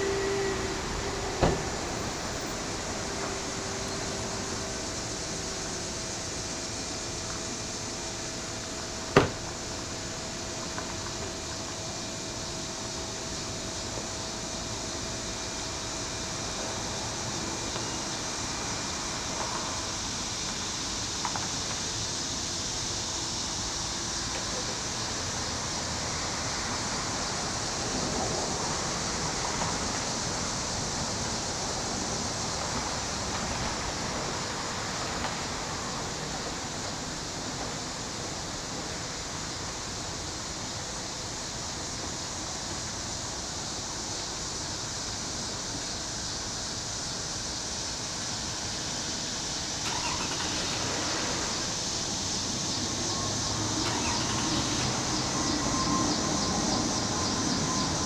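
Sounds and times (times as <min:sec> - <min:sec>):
outdoor background hiss: 0:00.0 - 0:58.0.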